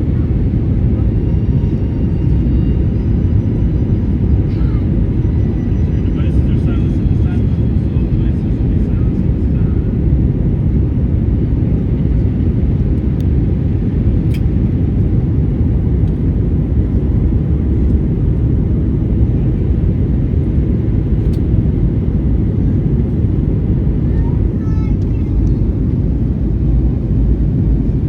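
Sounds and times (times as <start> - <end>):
jet engines rumbling: 0.0 - 28.0.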